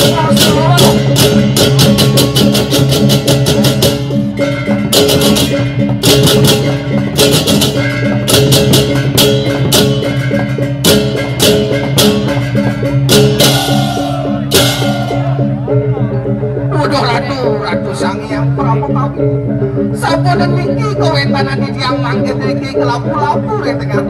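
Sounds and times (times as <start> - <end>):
drums: 0.0 - 24.0.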